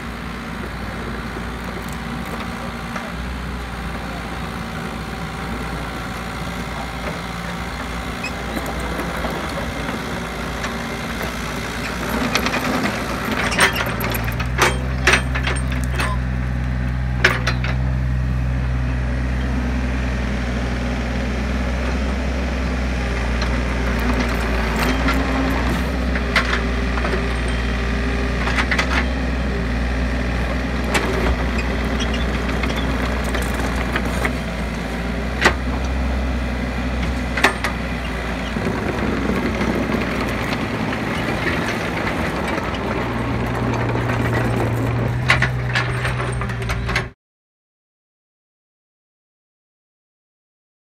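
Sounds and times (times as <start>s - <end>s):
excavator diesel engine running: 0.0s - 47.2s.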